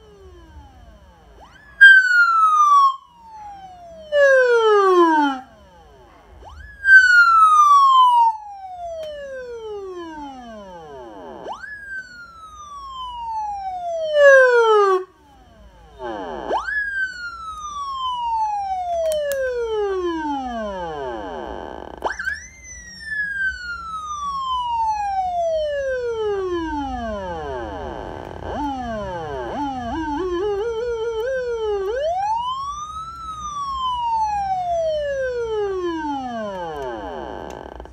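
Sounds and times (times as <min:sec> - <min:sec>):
electronic police siren: 0:00.0 - 0:37.9.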